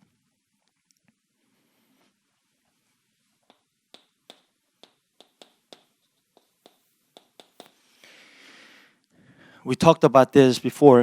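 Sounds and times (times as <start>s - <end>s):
soft hiss: 0.0s - 9.7s.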